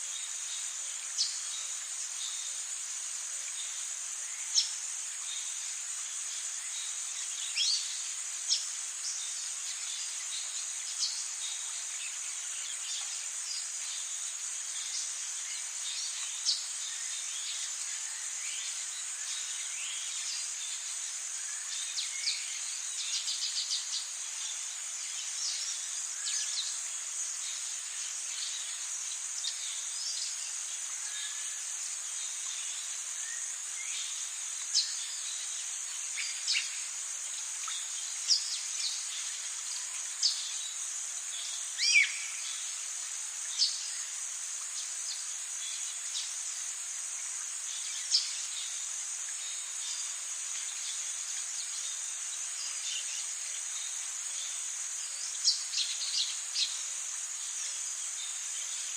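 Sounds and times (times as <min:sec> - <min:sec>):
insects droning: 0:00.0 - 0:58.9.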